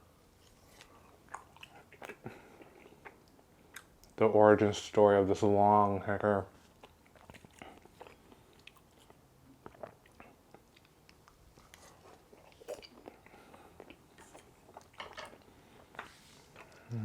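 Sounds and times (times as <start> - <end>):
person chewing: 0.4 - 4.2, 6.6 - 17.0.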